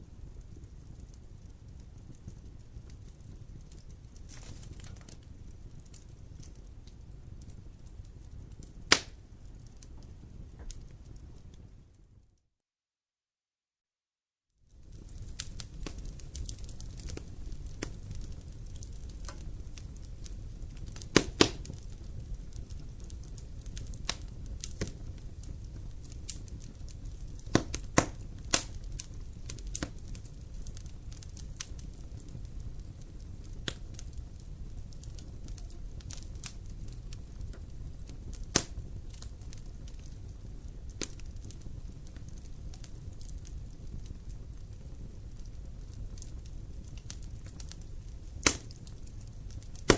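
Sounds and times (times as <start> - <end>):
fire flames rumbling: 0.0 - 12.2, 14.6 - 49.9
wood fire crackles and pops: 0.0 - 12.4, 14.6 - 49.9.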